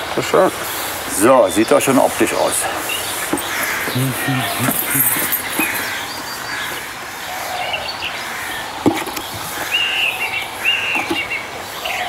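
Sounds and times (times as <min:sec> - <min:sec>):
birds chirping: 0:00.3 - 0:12.0.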